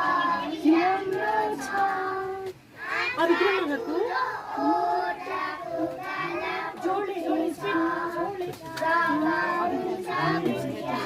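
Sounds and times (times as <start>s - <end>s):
children singing: 0.0s - 11.0s.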